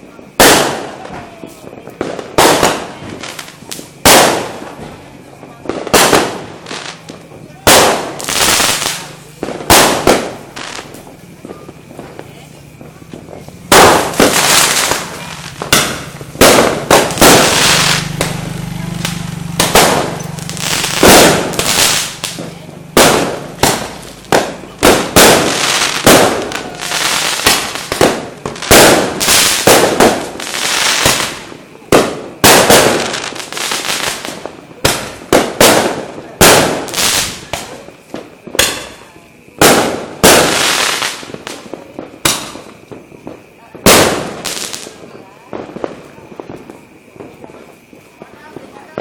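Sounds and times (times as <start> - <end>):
fireworks banging: 0.0 - 49.0.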